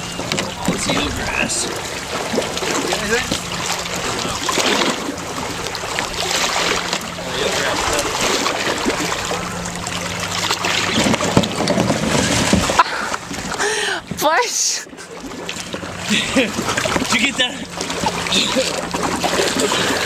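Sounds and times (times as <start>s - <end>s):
sharp splashes: 0.0s - 14.0s, 14.9s - 20.0s
water sloshing around a canoe: 0.0s - 20.0s.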